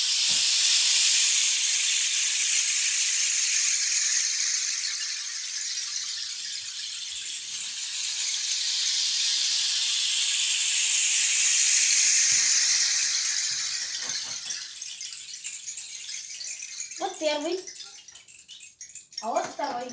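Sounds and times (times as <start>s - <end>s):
rain stick trickling hiss: 0.0s - 19.9s.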